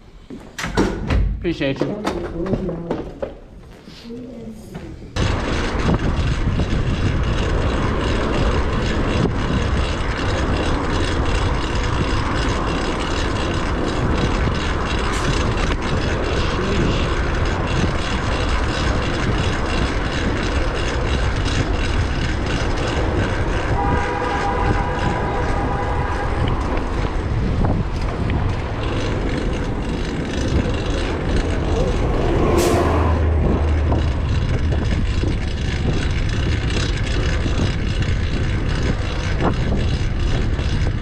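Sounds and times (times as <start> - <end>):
bicycle chain drivetrain whir: 5.1 - 41.0
wind on microphone: 5.2 - 41.0.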